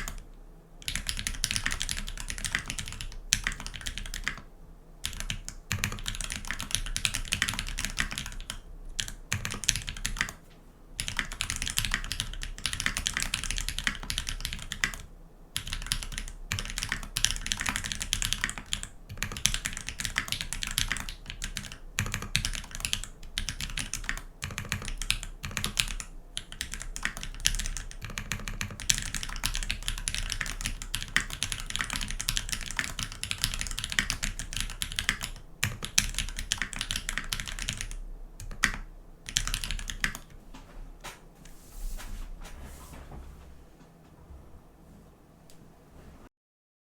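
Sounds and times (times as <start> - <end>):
mechanical keyboard typing: 0.0 - 0.2, 0.8 - 10.4, 11.0 - 40.4.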